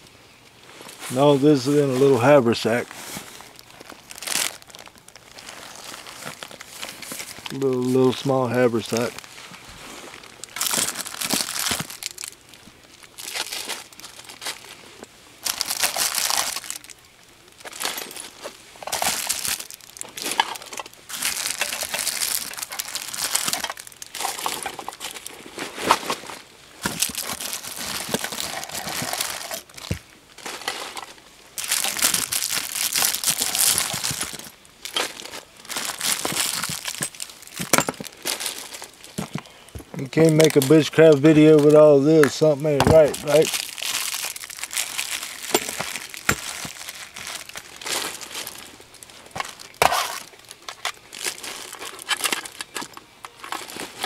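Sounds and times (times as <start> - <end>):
plastic bags crinkling: 0.6 - 54.0.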